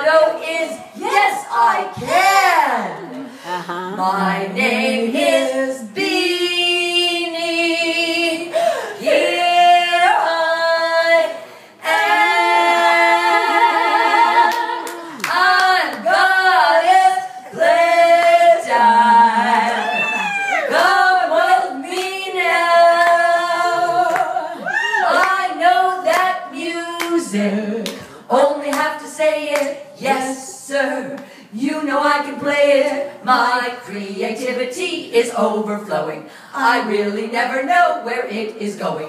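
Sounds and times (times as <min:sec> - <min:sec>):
two women singing: 0:00.0 - 0:39.0.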